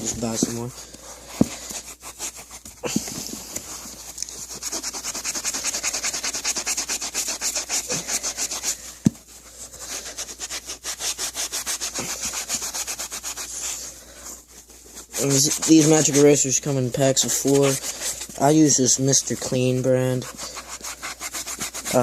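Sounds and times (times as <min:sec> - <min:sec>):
sponge scrubbing a sneaker: 0:00.0 - 0:22.0.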